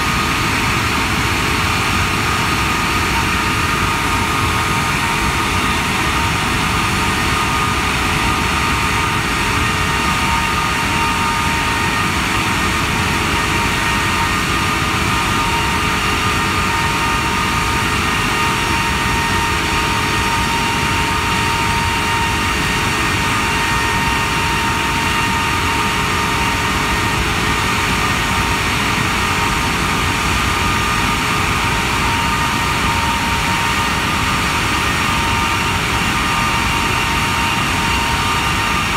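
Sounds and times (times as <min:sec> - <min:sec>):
jet engine roaring: 0:00.0 - 0:38.9
whining fan tones: 0:00.0 - 0:38.9.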